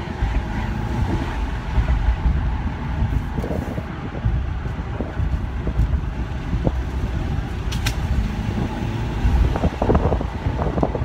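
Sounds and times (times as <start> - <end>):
car engine running: 0.0 - 11.0
road and wind noise: 0.0 - 11.0.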